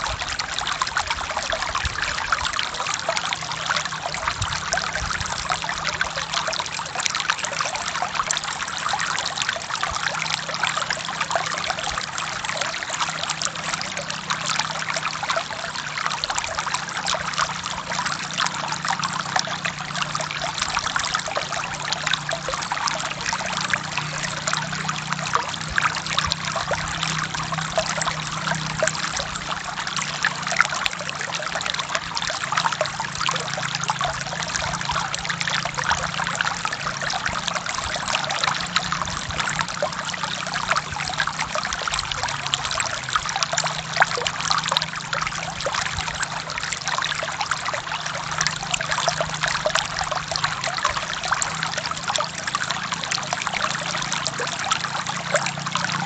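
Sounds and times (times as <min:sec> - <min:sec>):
stream splashing over rocks: 0:00.0 - 0:56.0.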